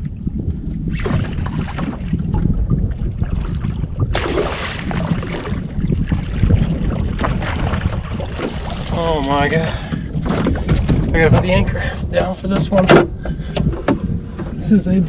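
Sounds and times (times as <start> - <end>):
water lapping around boat: 0.0 - 15.0
wind buffeting microphone: 0.0 - 15.0.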